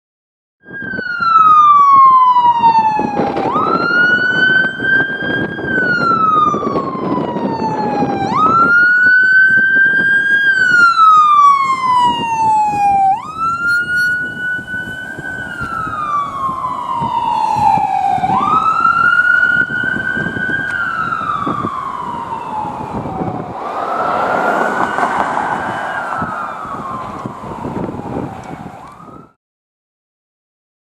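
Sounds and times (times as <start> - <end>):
fire engine siren wailing: 0.6 - 29.4
truck rumbling on road: 3.0 - 29.2.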